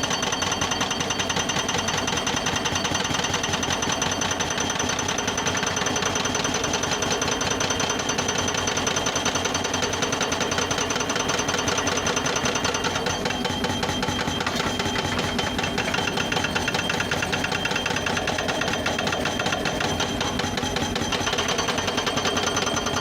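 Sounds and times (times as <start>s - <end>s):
excavator diesel engine clatter: 0.0s - 23.0s.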